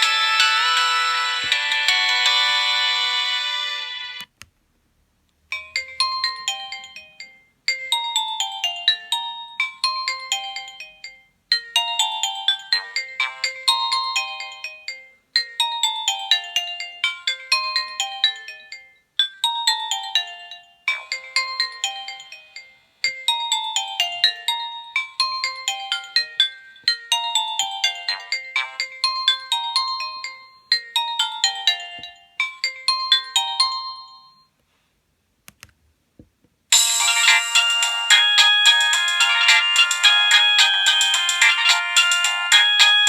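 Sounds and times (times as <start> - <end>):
phone ringtone melody: 0.0 - 4.2, 5.6 - 34.5, 36.7 - 43.0.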